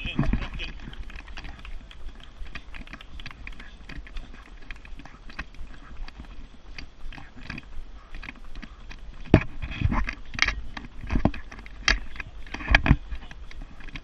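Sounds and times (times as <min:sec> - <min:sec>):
running footsteps on pavement: 0:00.0 - 0:14.0
stroller wheels rumbling: 0:00.0 - 0:14.0.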